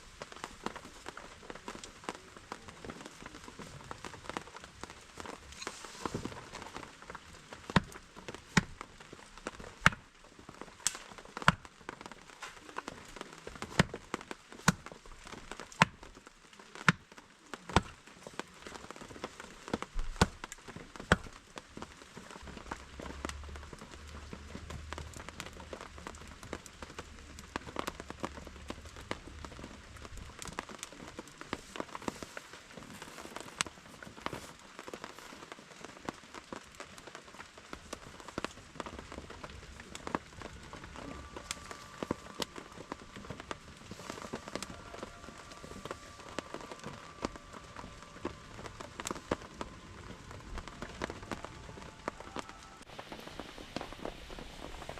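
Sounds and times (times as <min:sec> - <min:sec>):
campfire crackling and popping: 0:00.0 - 0:54.9
rain pattering: 0:00.0 - 0:54.9.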